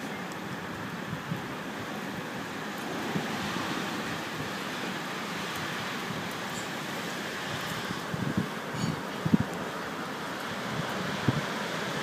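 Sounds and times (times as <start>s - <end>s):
blizzard wind rushing: 0.4s - 12.0s.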